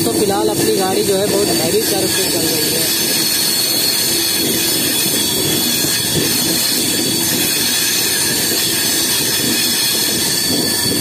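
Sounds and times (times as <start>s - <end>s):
high-pitched whine: 0.0s - 11.0s
train wheels rolling on track: 0.0s - 11.0s.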